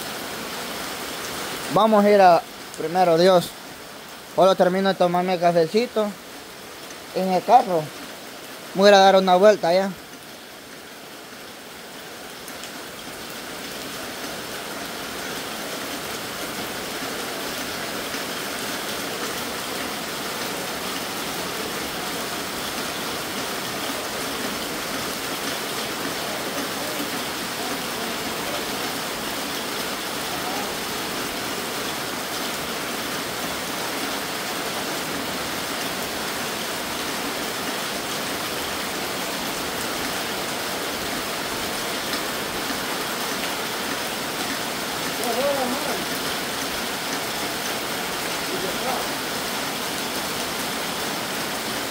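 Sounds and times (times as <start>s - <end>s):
heavy rain into puddles: 0.0s - 51.9s.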